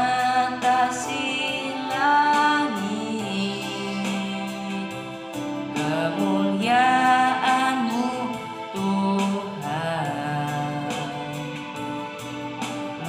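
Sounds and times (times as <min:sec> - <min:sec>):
boy singing into a microphone: 0:00.0 - 0:05.0, 0:05.8 - 0:11.6
instrumental backing track: 0:00.0 - 0:13.0.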